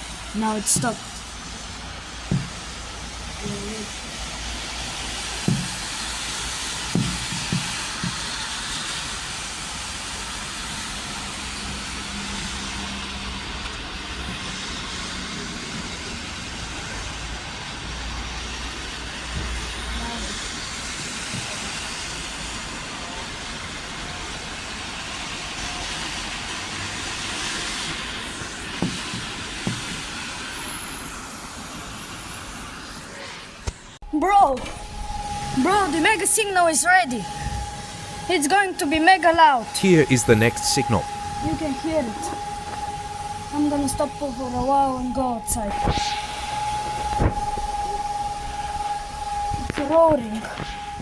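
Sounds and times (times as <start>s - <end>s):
steady hissing noise: 0.0s - 51.0s.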